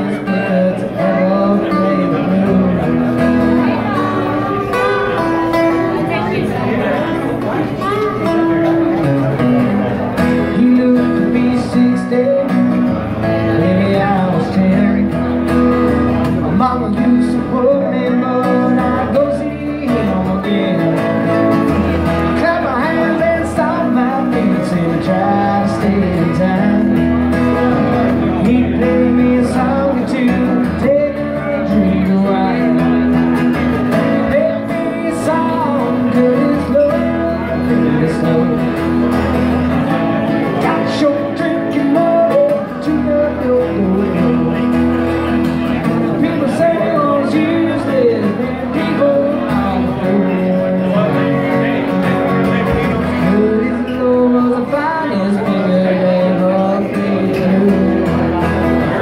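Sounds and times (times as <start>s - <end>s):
man singing: 0.0s - 7.2s, 7.8s - 59.0s
acoustic guitar strumming: 0.0s - 59.0s.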